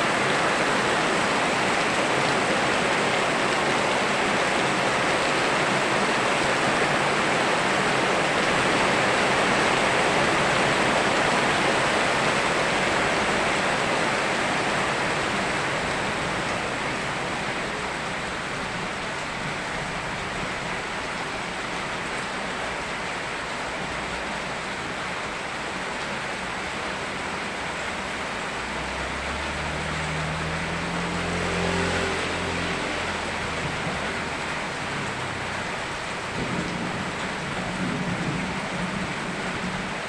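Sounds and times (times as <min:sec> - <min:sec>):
river flowing: 0:00.0 - 0:38.6
heavy rain: 0:00.0 - 0:40.0.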